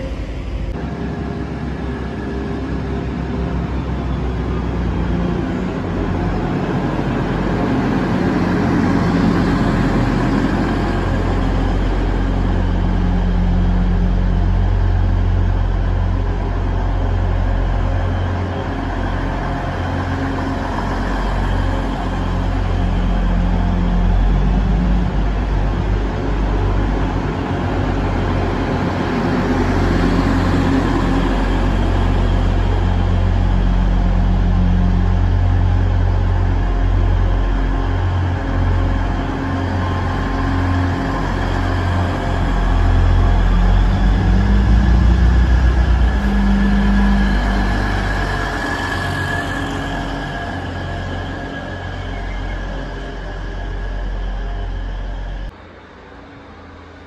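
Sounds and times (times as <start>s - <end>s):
diesel train engines droning: 0.0s - 57.0s.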